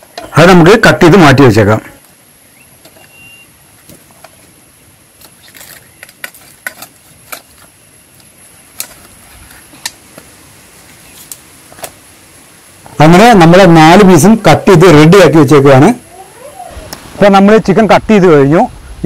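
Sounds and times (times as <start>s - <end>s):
faint steady high hiss: 0.0s - 19.0s.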